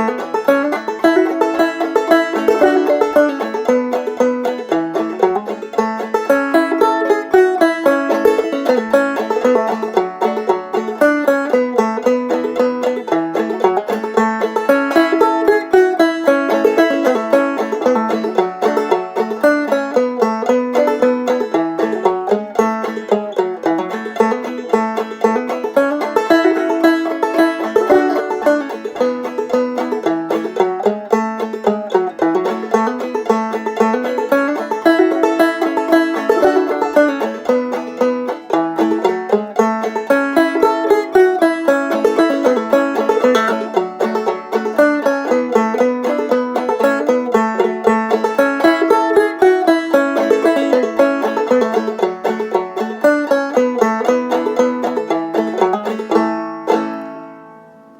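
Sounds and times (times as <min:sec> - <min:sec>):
banjo plucked melody: 0:00.0 - 0:57.9.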